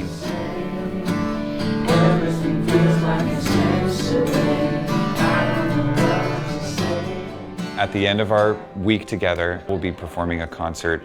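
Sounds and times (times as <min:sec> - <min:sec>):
acoustic guitar strumming chords: 0:00.0 - 0:10.3.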